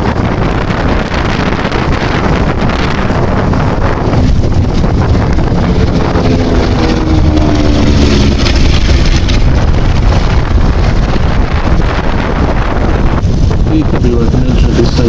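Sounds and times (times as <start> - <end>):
aircraft engines passing: 0.0 - 15.0
wind noise on microphone: 0.0 - 15.0.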